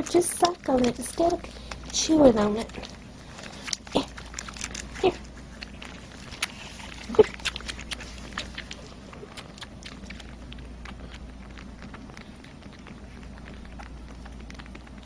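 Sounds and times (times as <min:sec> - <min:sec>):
kittens sucking on bottles: 0:00.0 - 0:15.0.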